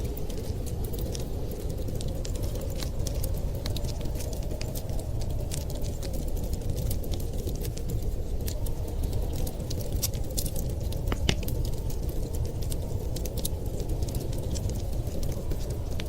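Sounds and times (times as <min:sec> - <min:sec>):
low rumble of fire: 0:00.0 - 0:16.0
wood fire crackling: 0:00.0 - 0:16.0.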